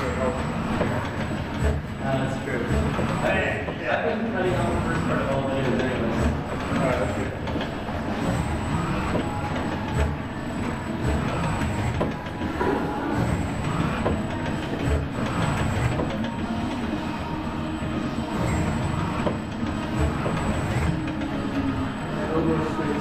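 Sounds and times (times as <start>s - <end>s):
robot arm mechanical rumble: 0.0s - 23.0s.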